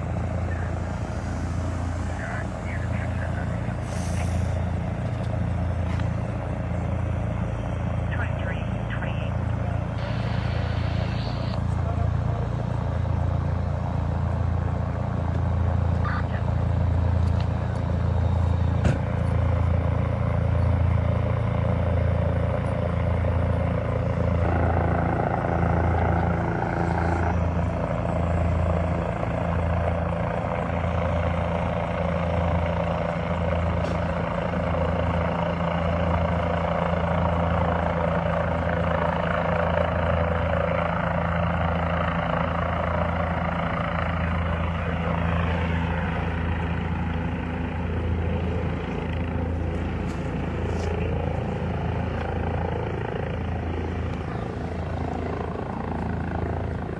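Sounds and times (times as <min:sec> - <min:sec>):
helicopter engine: 0:00.0 - 0:56.9
helicopter rotor beating: 0:00.0 - 0:56.9.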